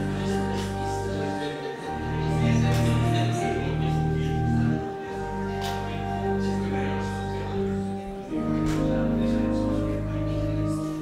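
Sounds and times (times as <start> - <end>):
church organ chords: 0.0 - 11.0.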